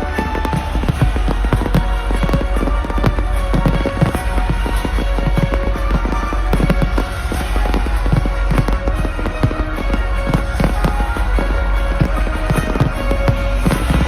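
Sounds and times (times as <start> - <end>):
firework bangs and crackles: 0.0 - 14.0
loud music: 0.0 - 14.0.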